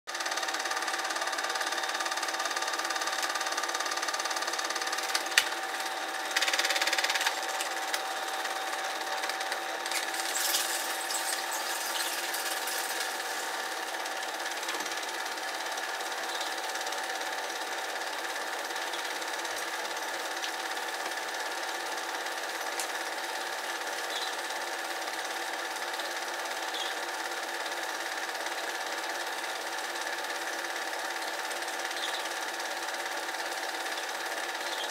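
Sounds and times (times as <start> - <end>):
film projector whirring: 0.1 - 34.9.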